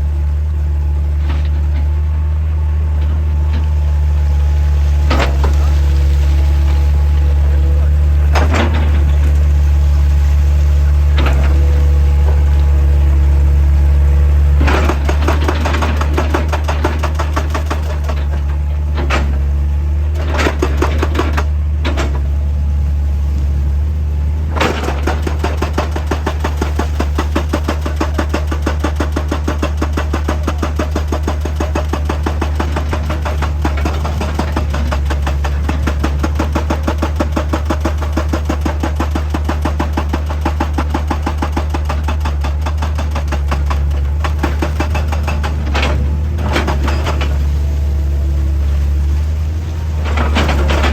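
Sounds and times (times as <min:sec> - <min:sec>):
diesel machinery engine hum: 0:00.0 - 0:50.9.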